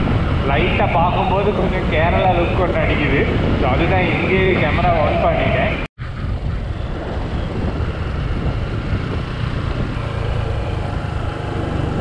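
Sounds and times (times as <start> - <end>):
motorcycle engine drone: 0.0 - 12.0
road noise: 0.0 - 12.0
wind rushing: 0.0 - 12.0.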